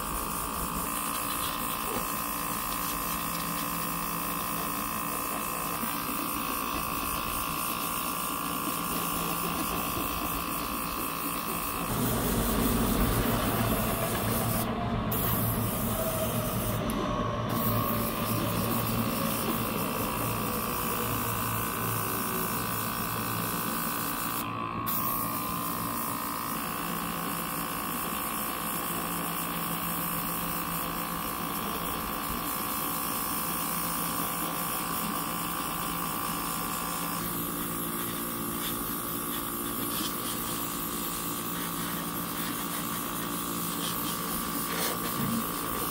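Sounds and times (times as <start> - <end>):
airbrush spraying hiss: 0.0 - 26.6, 27.2 - 45.9
small compressor hum: 0.0 - 45.9.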